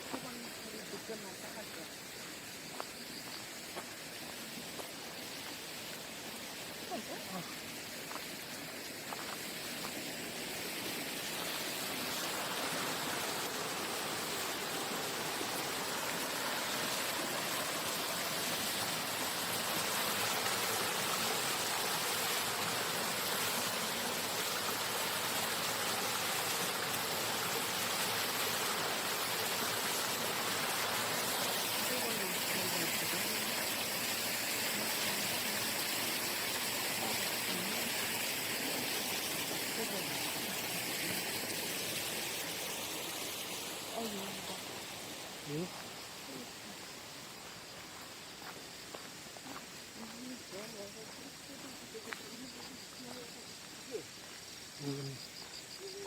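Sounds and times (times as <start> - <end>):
stream running water: 0.0 - 56.0.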